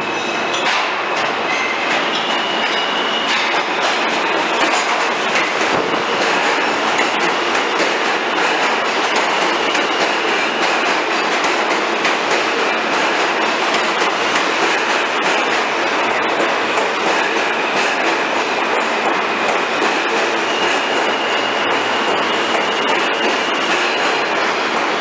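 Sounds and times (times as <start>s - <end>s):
subway train wheels on rails: 0.0s - 25.0s.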